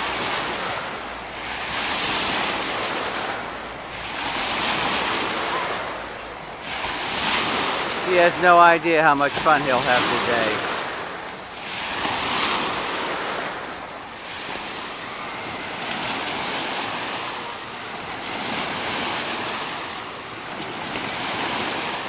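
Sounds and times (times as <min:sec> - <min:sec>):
water lapping on a beach: 0:00.0 - 0:22.0.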